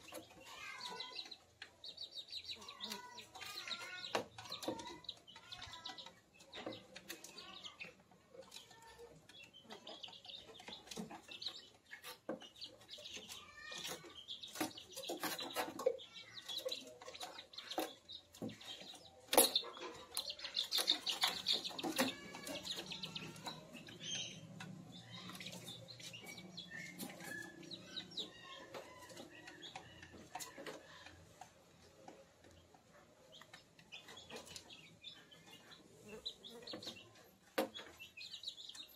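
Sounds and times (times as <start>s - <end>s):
chicks cheeping and clucking: 0.0s - 38.9s.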